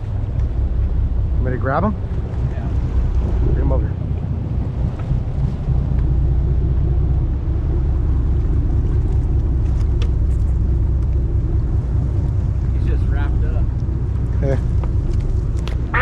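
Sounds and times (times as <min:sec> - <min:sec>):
boat engine rumble: 0:00.0 - 0:16.0
wind buffeting microphone: 0:00.0 - 0:16.0.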